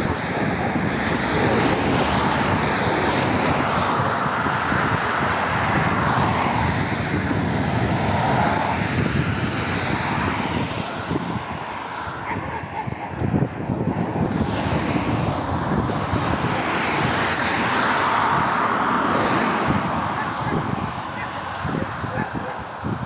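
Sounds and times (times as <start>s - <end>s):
cars passing on highway: 0.0s - 23.0s.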